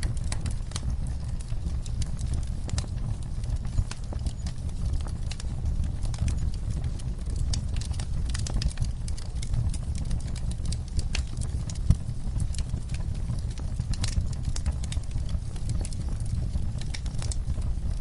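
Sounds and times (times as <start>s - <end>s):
fireplace crackling: 0.0s - 18.0s.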